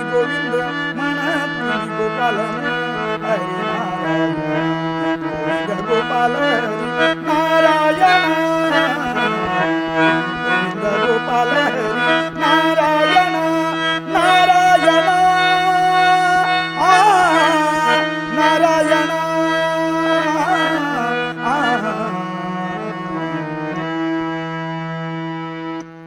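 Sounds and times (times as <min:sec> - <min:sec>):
harmonium playing: 0:00.0 - 0:26.0.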